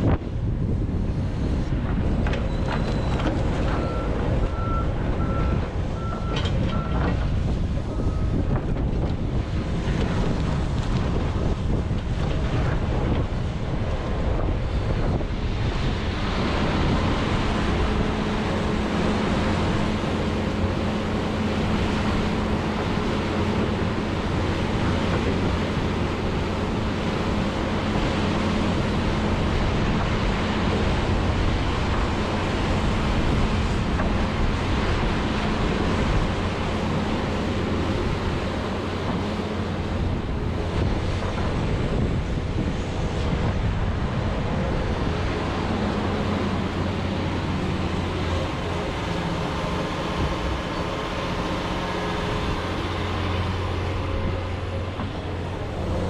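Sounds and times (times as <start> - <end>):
excavator diesel engine running: 0.2 - 56.0.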